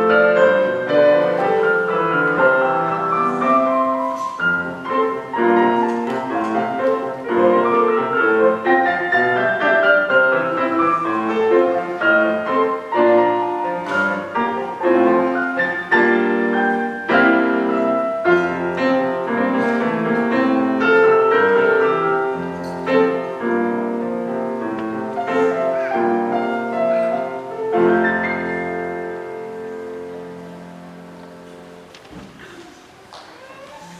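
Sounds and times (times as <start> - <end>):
piano playing: 0.0 - 33.9.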